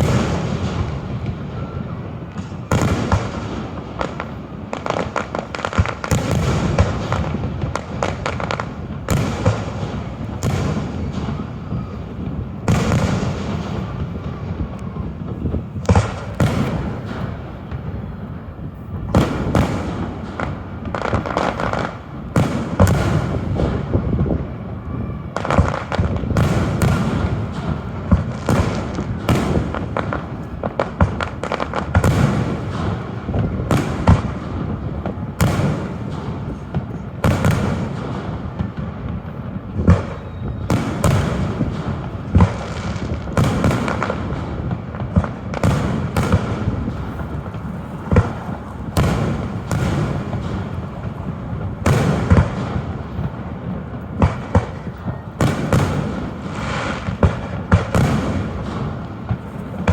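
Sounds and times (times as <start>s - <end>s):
fireworks booming: 0.0s - 59.9s
fireworks rumble and crackle: 0.0s - 59.9s.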